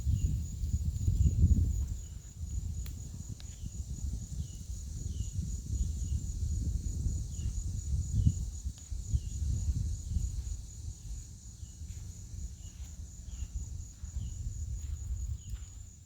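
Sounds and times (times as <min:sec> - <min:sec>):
high insect drone: 0:00.0 - 0:16.0
wind buffeting microphone: 0:00.0 - 0:16.0.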